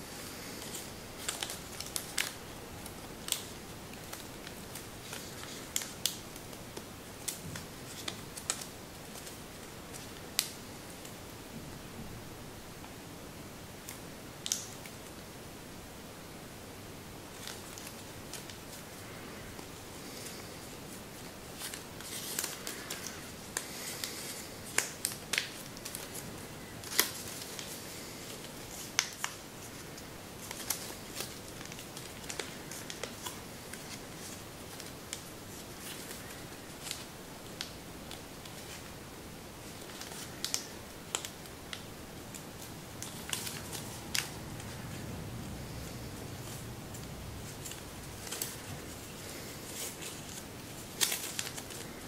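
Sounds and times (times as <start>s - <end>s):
paper rustling: 0.3s - 11.2s, 17.3s - 38.9s, 39.7s - 52.0s
paper crackling and clicking: 0.4s - 11.2s, 13.8s - 15.2s, 17.3s - 38.9s, 39.7s - 45.1s, 45.7s - 52.0s.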